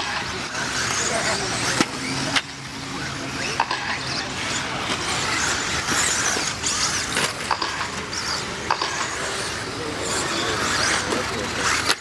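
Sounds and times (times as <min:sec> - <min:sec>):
rc buggy motors whining: 0:00.0 - 0:12.0.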